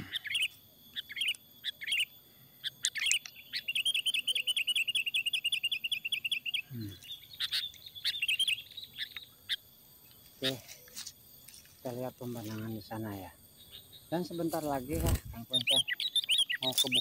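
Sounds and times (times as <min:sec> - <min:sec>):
songbird chirping and trilling: 0:00.0 - 0:17.0.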